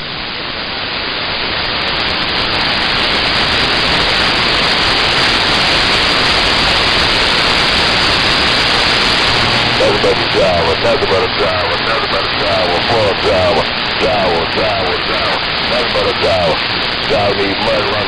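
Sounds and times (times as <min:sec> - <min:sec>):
radio static hiss: 0:01.6 - 0:18.0.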